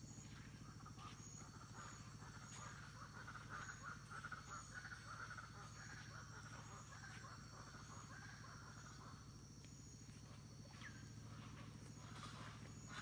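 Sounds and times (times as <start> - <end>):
steady high insect tone: 0.0 - 13.0.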